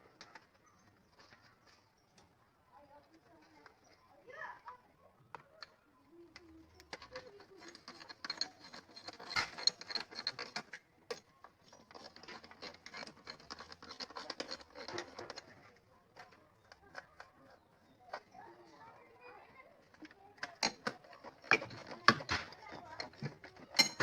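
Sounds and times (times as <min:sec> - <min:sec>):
hand tools clicking and scraping: 0:00.0 - 0:04.0, 0:05.3 - 0:24.0.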